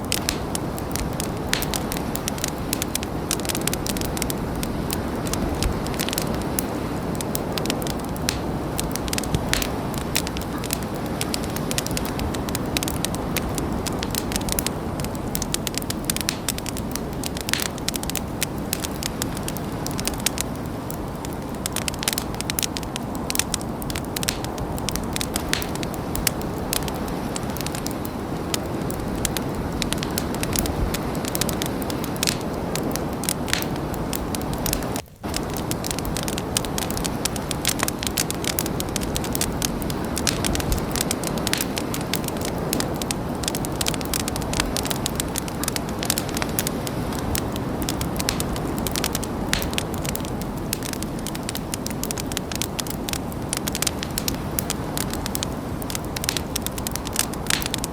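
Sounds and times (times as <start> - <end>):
wood crackling and popping: 0.0 - 57.9.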